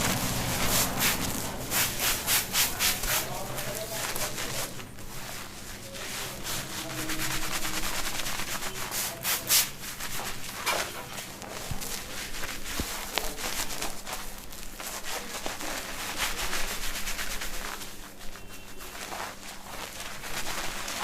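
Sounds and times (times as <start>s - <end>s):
fingers scratching through hair: 0.0s - 21.0s.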